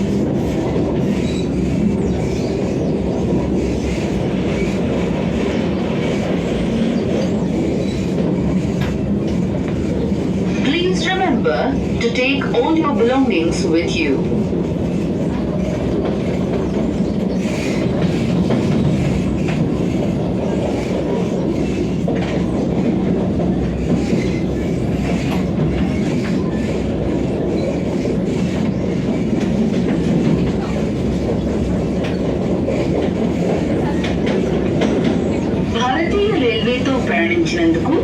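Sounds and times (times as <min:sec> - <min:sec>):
train rumbling on rails: 0:00.0 - 0:38.0.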